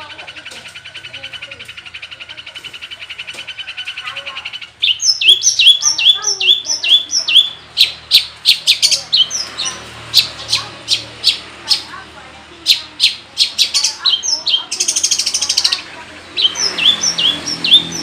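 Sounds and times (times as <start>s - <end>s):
shrike singing trills and whistles: 0.0s - 11.9s, 12.6s - 18.0s.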